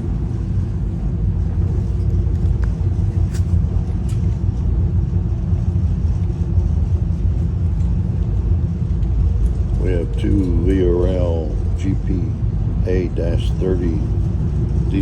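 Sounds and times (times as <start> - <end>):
railcar rumble: 0.0 - 15.0.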